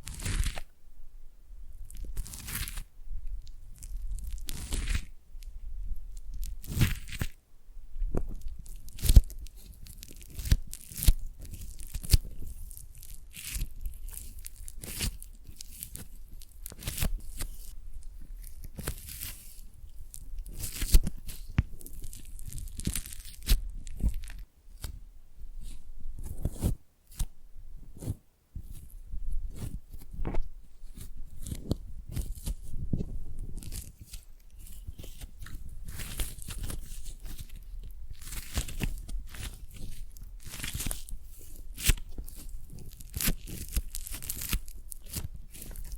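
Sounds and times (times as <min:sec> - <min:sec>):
foam clay crunching: 0:00.0 - 0:00.6, 0:01.9 - 0:02.8, 0:03.8 - 0:05.1, 0:06.4 - 0:07.4, 0:08.3 - 0:24.9, 0:28.0 - 0:45.9.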